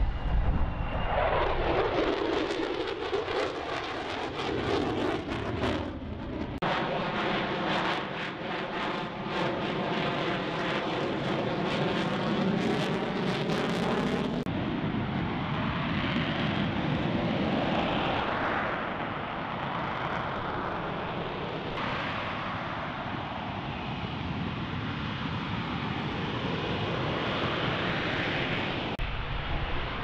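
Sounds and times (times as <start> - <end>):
jet engine whine: 0.0 - 30.0
rough noisy jet hovering: 0.0 - 30.0.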